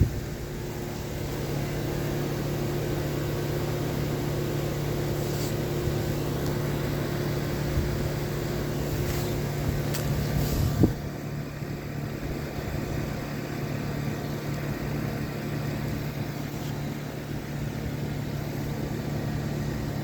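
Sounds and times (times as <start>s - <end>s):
compressor hum: 0.0s - 20.0s.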